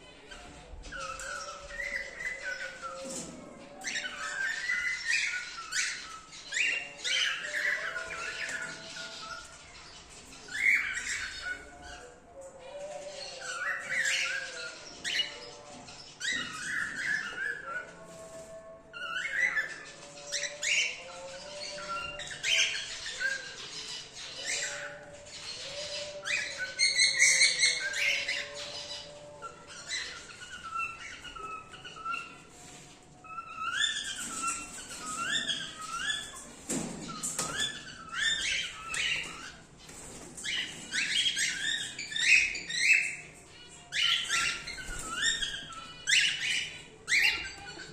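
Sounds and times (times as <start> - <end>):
cockatiels calling and chirping: 0.0 - 47.9.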